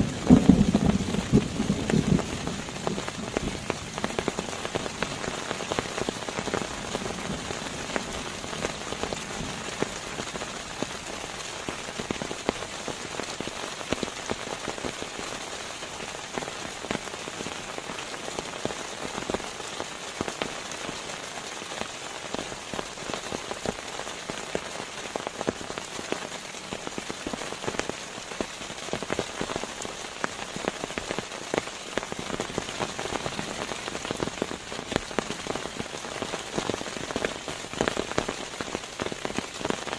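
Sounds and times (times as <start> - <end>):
raindrops ticking: 0.0 - 39.9
steady rain: 0.0 - 39.9.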